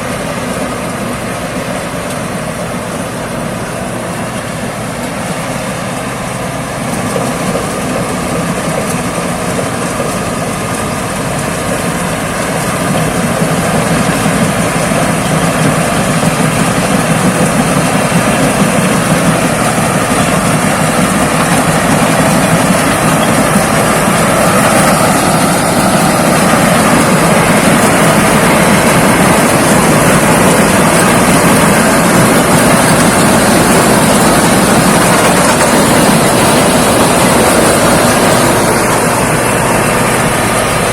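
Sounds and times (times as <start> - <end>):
combine harvester droning: 0.0 - 40.9.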